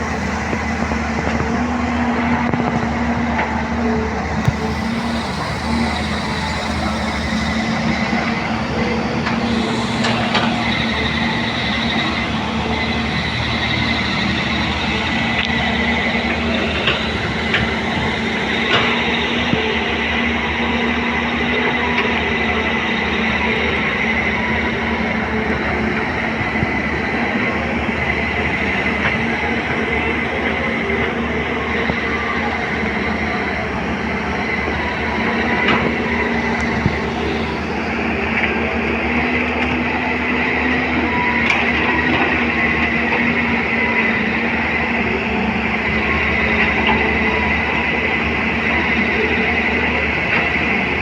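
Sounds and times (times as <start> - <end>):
continuous clatter: 0.0 - 51.0
mechanical rumble: 0.0 - 51.0
motor humming and whining: 0.0 - 51.0.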